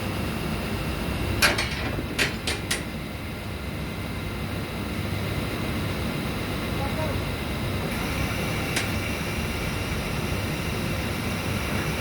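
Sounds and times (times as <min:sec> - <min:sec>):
drilling rig machinery rumbling: 0:00.7 - 0:12.0.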